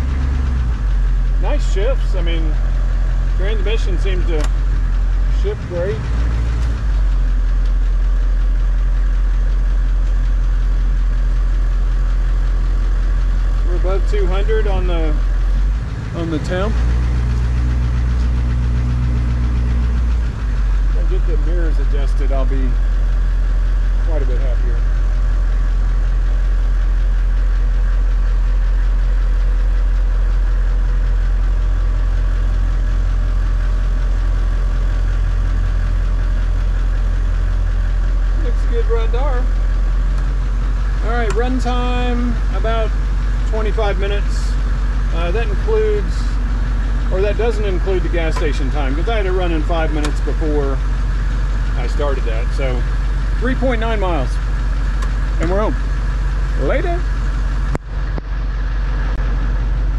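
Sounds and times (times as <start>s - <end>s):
diesel engine idling from inside cab: 0.0s - 59.9s.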